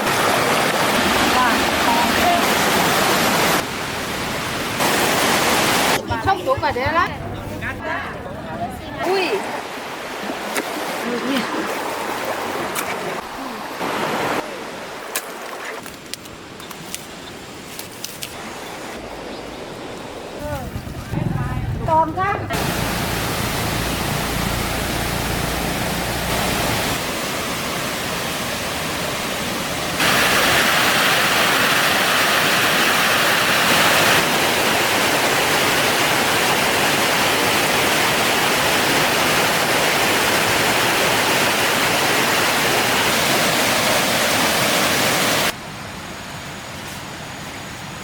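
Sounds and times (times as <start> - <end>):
water rushing: 0.0 - 45.6.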